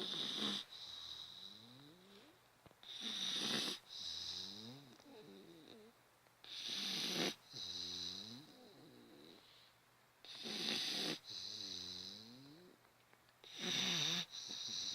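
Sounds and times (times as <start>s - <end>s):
dog snoring: 0.0s - 12.8s, 13.4s - 14.9s.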